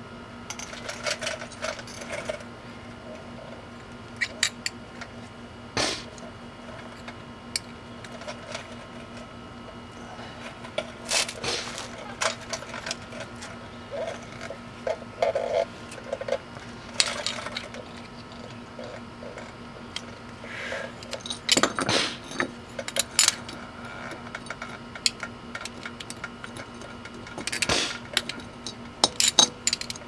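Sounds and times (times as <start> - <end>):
steady low hum: 0.0 - 30.0
hand tools and metal parts clinking: 0.5 - 2.5, 4.2 - 5.3, 6.0 - 9.3, 10.4 - 30.0.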